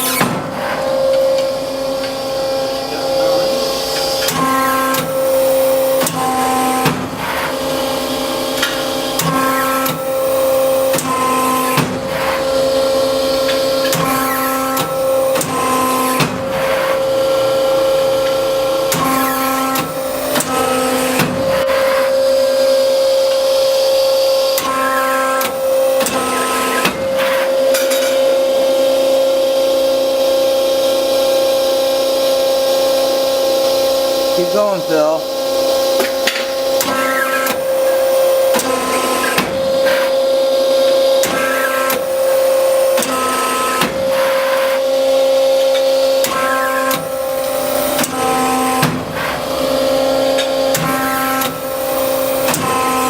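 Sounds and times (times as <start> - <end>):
hydraulic pump hum: 0.0 - 53.0.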